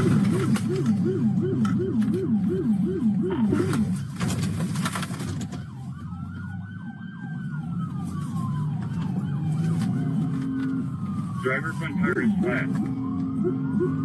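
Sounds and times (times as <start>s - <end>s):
police siren wailing: 0.0s - 14.0s
police siren yelping: 0.0s - 14.0s
vehicle engine and road rumble: 0.0s - 14.0s.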